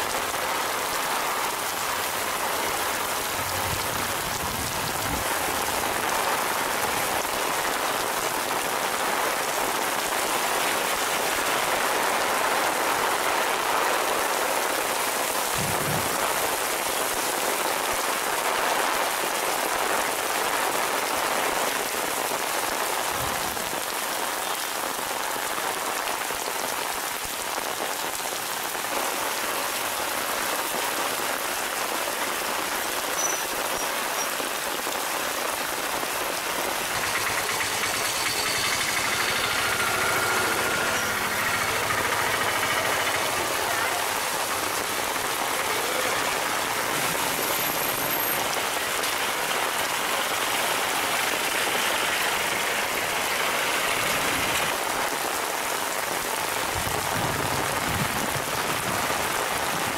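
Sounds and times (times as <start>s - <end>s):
heavy rain on road: 0.0s - 59.9s.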